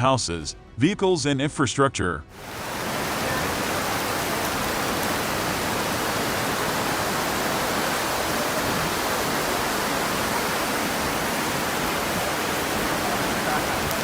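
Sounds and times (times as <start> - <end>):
rain and flowing floodwater: 2.4 - 14.0.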